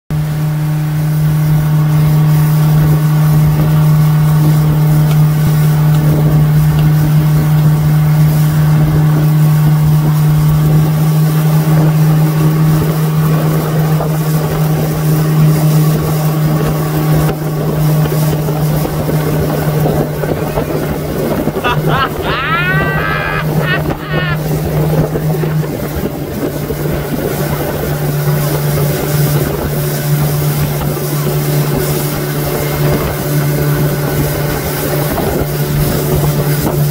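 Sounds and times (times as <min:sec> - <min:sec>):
outboard motor droning: 0:00.2 - 0:36.9.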